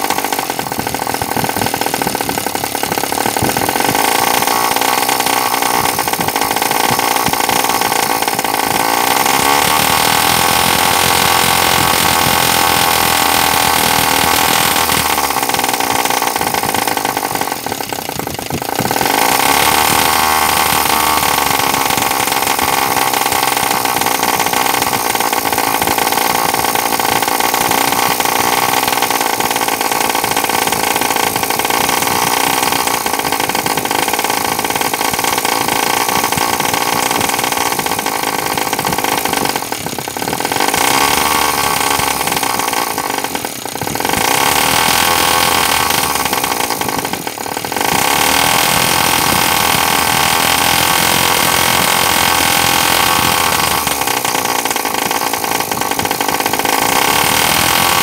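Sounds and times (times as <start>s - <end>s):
small two-stroke engine buzzing: 0.0s - 58.0s.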